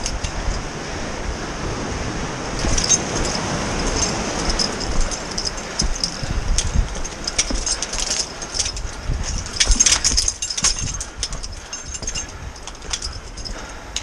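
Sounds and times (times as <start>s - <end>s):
wind buffeting microphone: 0.0s - 14.0s
boots and gear knocking on rock: 2.6s - 14.0s.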